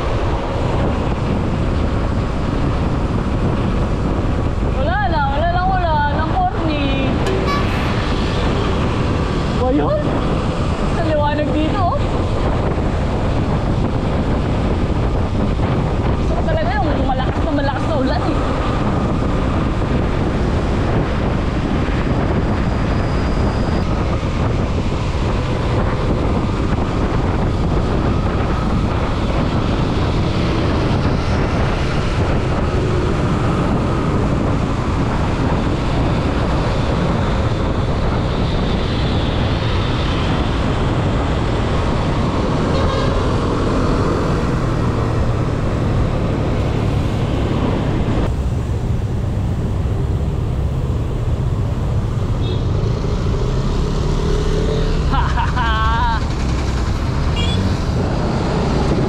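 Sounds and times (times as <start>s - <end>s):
low engine hum: 0.0s - 59.0s
wind rushing over microphone: 0.0s - 59.0s.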